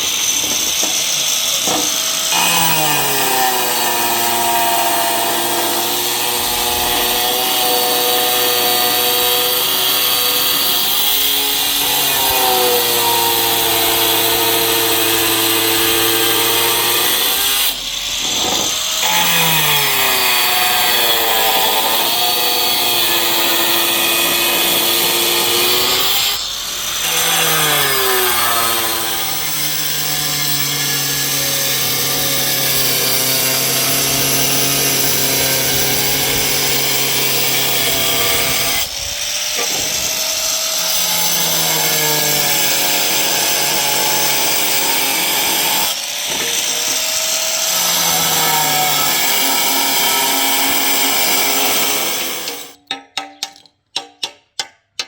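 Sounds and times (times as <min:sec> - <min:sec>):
power tool whining under load: 0:00.0 - 0:52.8.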